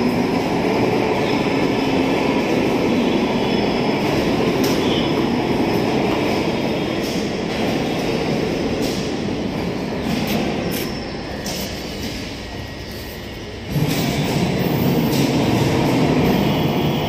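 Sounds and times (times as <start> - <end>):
rail coach rumbling on rails: 0.0 - 17.0.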